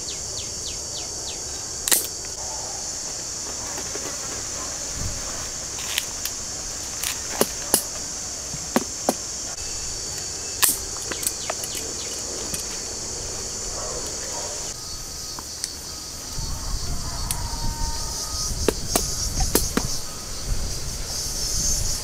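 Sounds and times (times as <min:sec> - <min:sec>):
insect chorus: 0:00.0 - 0:22.0.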